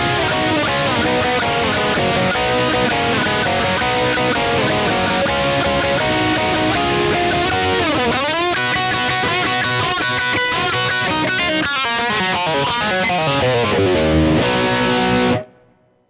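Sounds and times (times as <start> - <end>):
electric guitar lead with string bends: 0.0 - 15.8.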